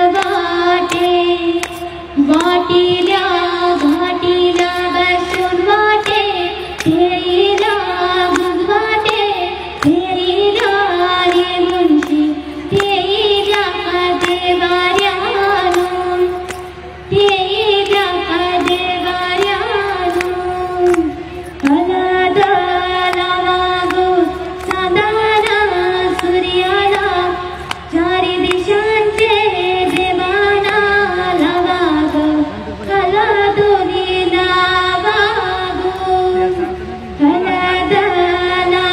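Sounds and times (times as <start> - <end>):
woman singing: 0.0 - 38.9
sharp ticks: 0.1 - 33.0.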